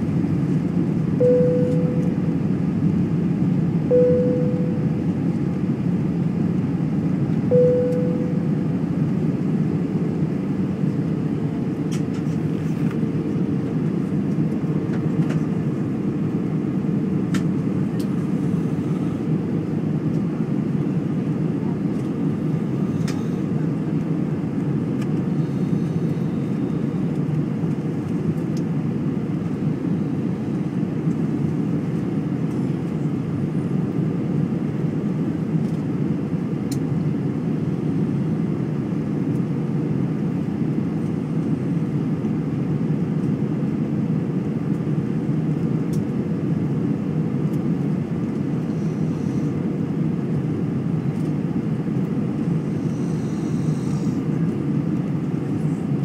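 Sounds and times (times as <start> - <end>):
jet engine rumble: 0.0 - 56.0.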